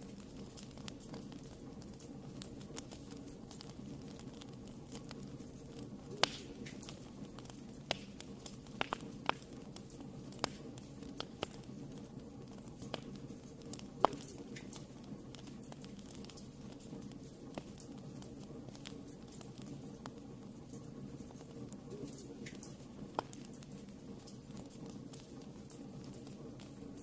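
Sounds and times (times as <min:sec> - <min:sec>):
burning wood crackling and popping: 0:00.0 - 0:27.0
fire flame rushing: 0:00.0 - 0:27.0.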